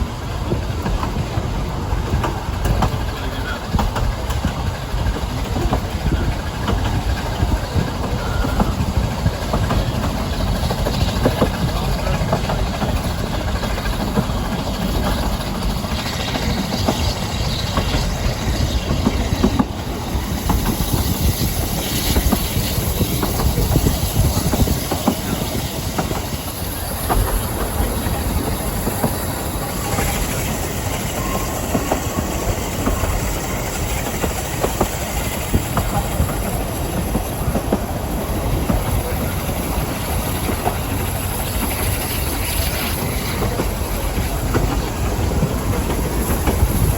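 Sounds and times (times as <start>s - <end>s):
train rumbling: 0.0s - 46.9s
wheels clicking over rail joints: 0.0s - 46.9s.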